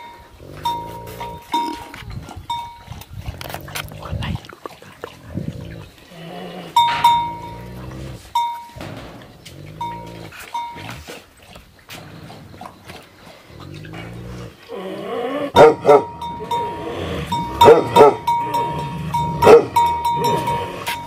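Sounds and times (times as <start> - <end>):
dog growling: 2.1 - 8.3, 9.1 - 11.3, 11.9 - 21.0.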